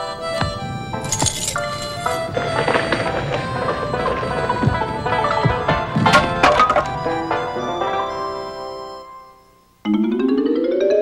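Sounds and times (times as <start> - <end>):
cartoon background music: 0.0 - 11.0.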